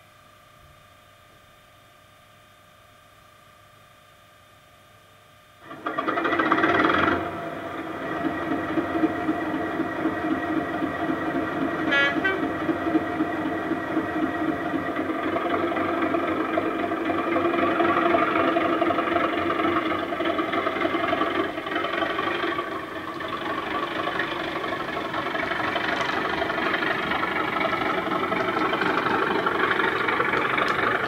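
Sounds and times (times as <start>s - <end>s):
diesel engine starting and idling: 5.6s - 31.0s.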